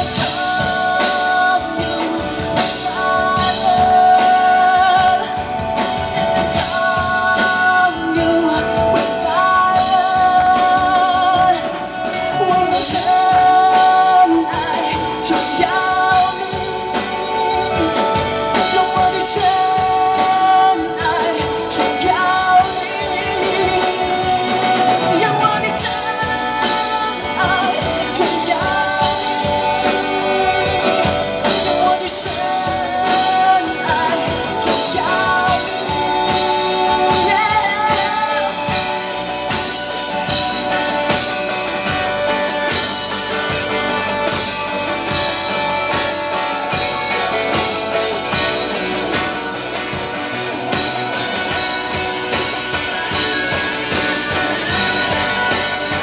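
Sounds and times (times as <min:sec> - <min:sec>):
drum kit: 0:00.0 - 0:56.0
electric guitar: 0:00.0 - 0:56.0
strummed acoustic guitar: 0:00.0 - 0:56.0
woman singing: 0:00.0 - 0:56.0.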